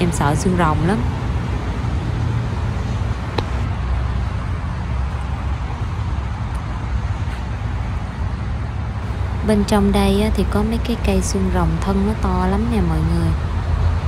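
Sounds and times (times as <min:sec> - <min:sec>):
road traffic rumble and hiss: 0:00.0 - 0:14.0.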